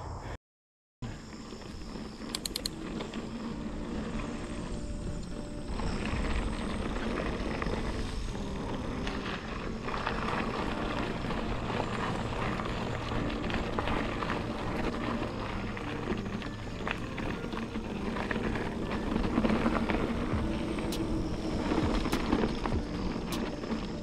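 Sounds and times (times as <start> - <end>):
bike rattling over bumps: 1.0 - 24.0
tyre noise on dirt: 1.0 - 24.0
wind rumble on microphone: 1.0 - 24.0.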